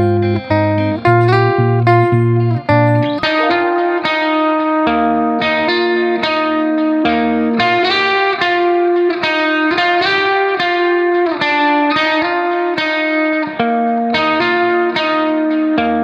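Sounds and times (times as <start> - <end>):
slow instrumental melody: 0.0 - 16.0.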